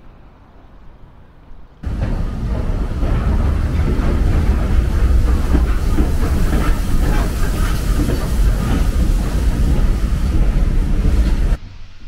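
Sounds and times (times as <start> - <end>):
train low rumble: 0.0 - 12.0
train wheels clattering on rail joints: 1.8 - 11.6.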